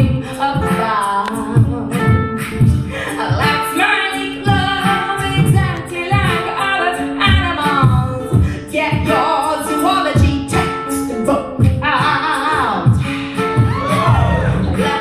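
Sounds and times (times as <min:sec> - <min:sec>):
man beatboxing: 0:00.0 - 0:09.2, 0:11.6 - 0:15.0
woman singing a cappella: 0:00.0 - 0:13.1, 0:13.7 - 0:15.0.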